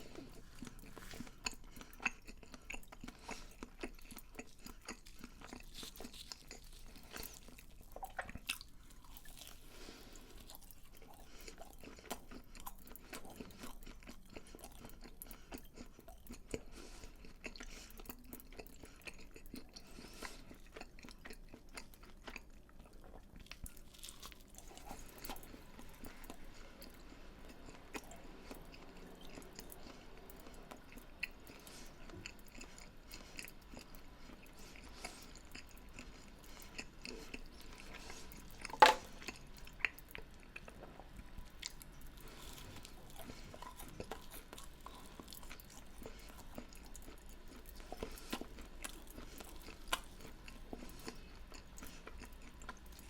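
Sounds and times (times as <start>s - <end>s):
chewing crunchy food: 0.0s - 53.0s.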